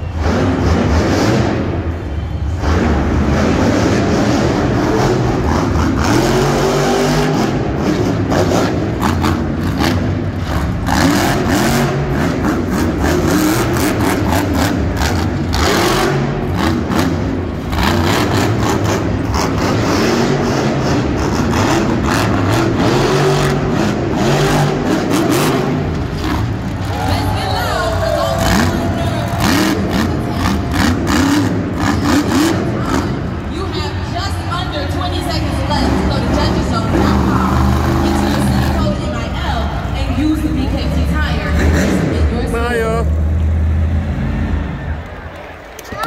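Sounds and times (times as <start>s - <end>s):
truck engine revving hard: 0.0s - 45.4s.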